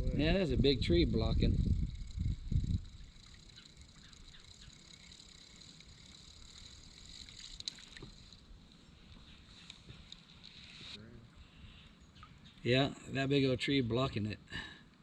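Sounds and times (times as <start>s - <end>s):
faint water sounds: 2.8s - 15.0s.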